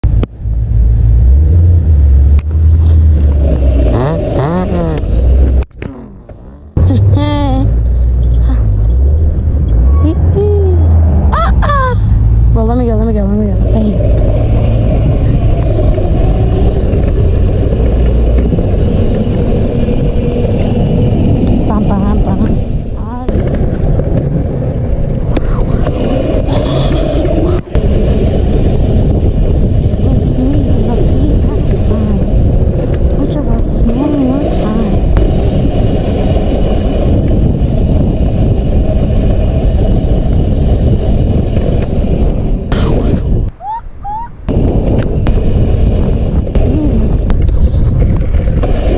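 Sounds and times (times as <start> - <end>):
dirt bike engine running: 2.4 - 7.5, 12.6 - 24.7, 25.6 - 43.2, 44.5 - 48.9.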